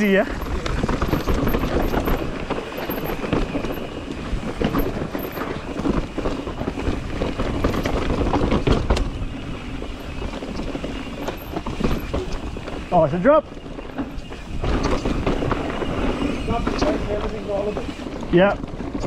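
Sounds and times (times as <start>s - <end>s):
bike rattling and clattering: 0.0s - 19.0s
tyres crunching over dirt and stones: 0.0s - 19.0s.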